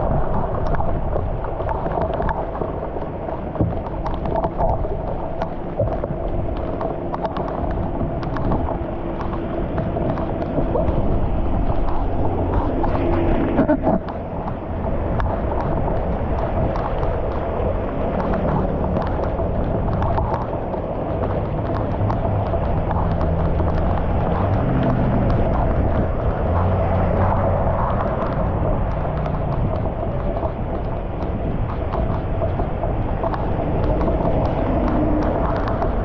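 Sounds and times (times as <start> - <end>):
floodwater rushing across street: 0.0 - 36.0
wind buffeting microphone: 0.0 - 36.0.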